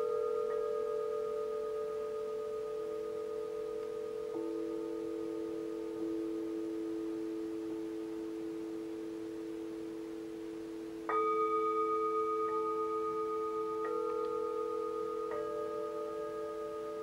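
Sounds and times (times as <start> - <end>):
singing bowls ringing: 0.0 - 17.0.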